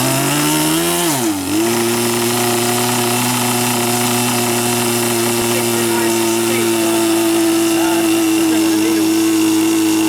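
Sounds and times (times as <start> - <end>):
model aircraft engines running: 0.0 - 10.0.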